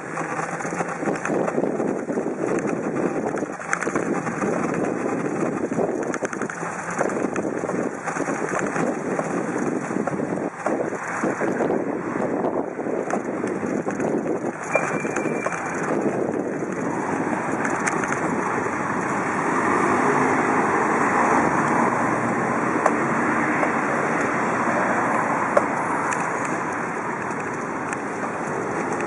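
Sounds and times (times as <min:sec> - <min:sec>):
city street traffic hum: 0:00.0 - 0:29.0
wind buffeting microphone: 0:00.0 - 0:29.0.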